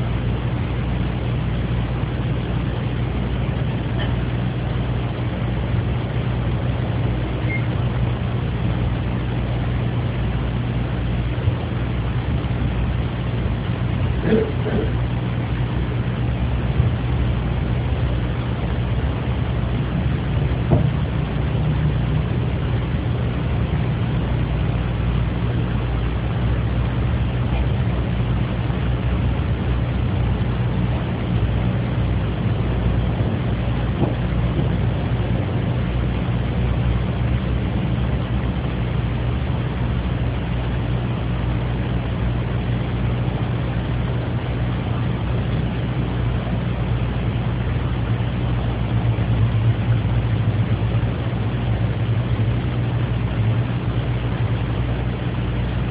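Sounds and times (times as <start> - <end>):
low hum with hiss: 0.0 - 55.9.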